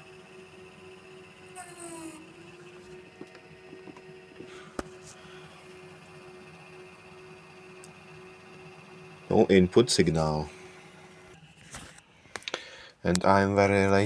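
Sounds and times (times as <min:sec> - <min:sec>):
computer fans humming: 0:00.0 - 0:14.0.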